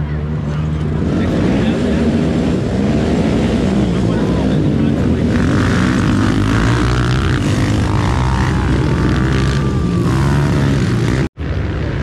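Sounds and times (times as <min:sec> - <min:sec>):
quad engines revving: 0:00.0 - 0:12.0.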